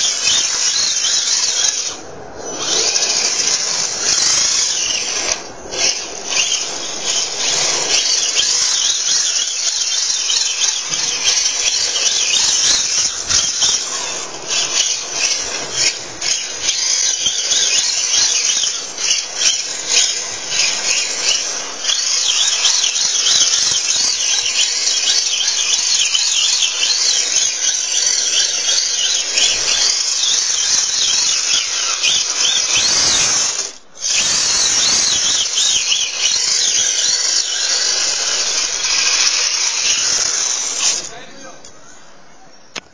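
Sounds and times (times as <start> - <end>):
electric motor whine: 0.0 - 41.2
tyres squealing: 0.0 - 42.2.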